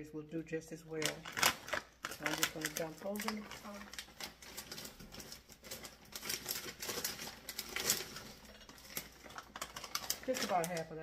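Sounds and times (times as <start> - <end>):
frozen berries clattering into pot: 0.9 - 11.0.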